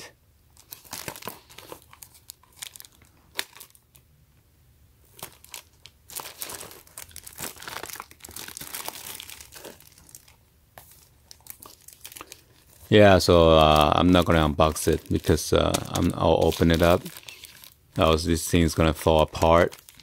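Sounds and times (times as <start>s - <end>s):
plastic shrink wrap crinkling: 0.6s - 4.1s, 5.0s - 20.0s.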